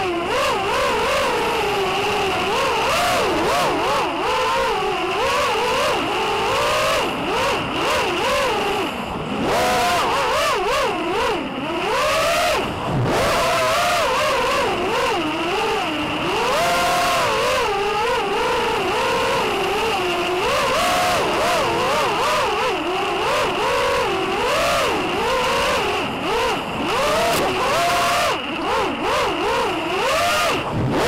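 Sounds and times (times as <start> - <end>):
quadcopter motors whining: 0.0 - 31.0.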